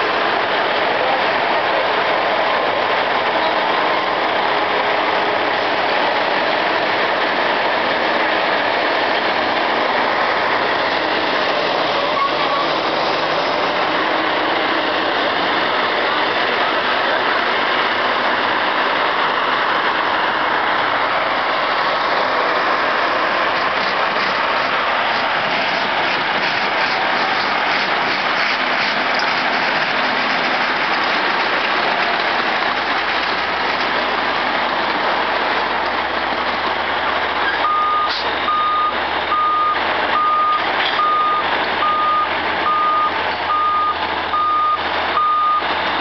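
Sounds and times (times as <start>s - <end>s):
heavy vehicle engines running: 0.0s - 46.0s.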